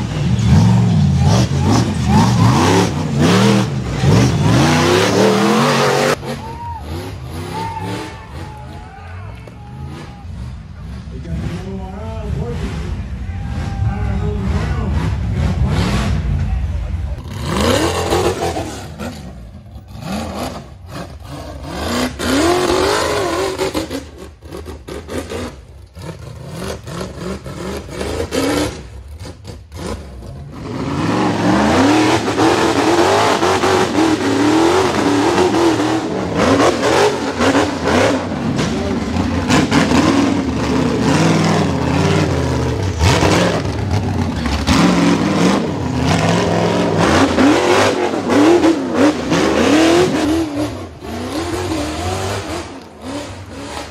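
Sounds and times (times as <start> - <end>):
buggy engine revving hard: 0.0 - 8.8, 9.7 - 16.4, 17.2 - 53.9.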